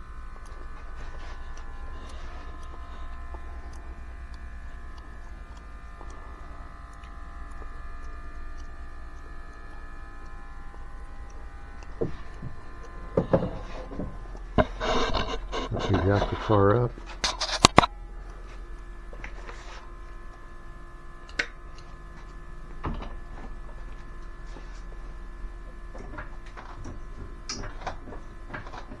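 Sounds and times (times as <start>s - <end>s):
pump electric buzz: 0.0s - 29.0s.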